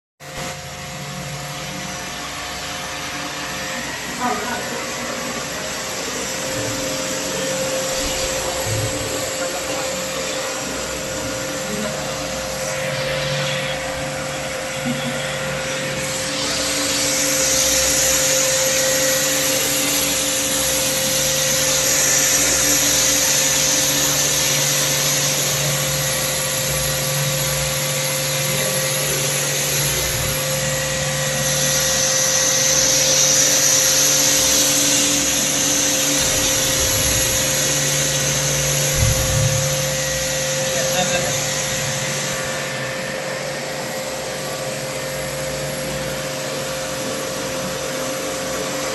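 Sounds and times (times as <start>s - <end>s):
cleaning machine motor hum: 0.2s - 48.9s.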